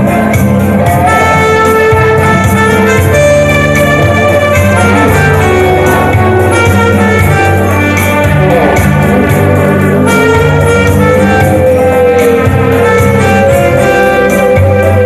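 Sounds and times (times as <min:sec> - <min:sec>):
keyboard and guitar band music: 0:00.0 - 0:15.0
steady bass notes: 0:00.0 - 0:15.0.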